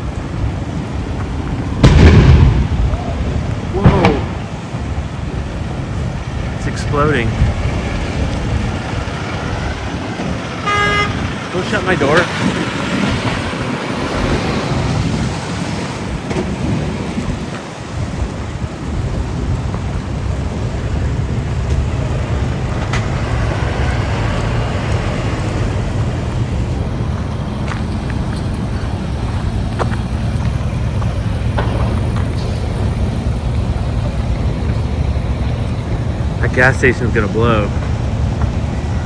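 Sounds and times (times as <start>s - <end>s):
car engine rumble: 0.0s - 39.0s.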